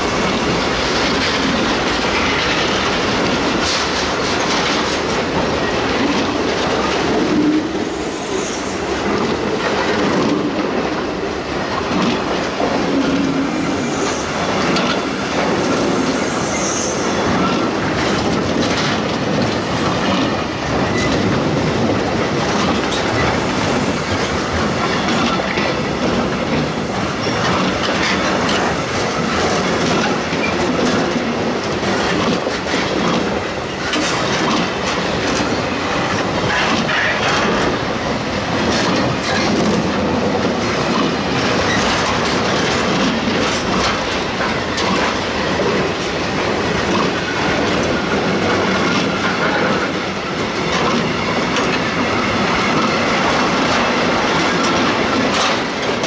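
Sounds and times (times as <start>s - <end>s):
wheels clacking over track joints: 0.0s - 7.7s, 9.0s - 16.0s, 17.3s - 56.0s
train wheels rumbling on rails: 0.0s - 56.0s.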